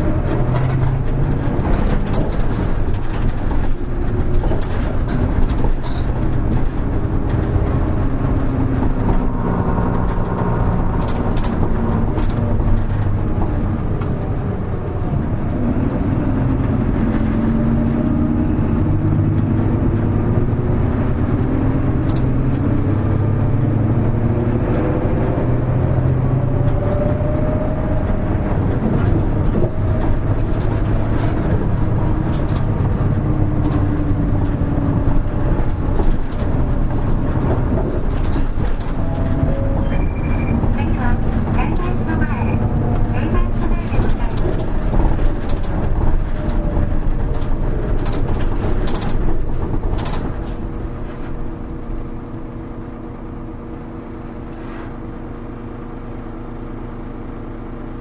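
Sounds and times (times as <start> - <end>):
bus diesel engine: 0.0 - 58.0
road noise: 0.0 - 58.0.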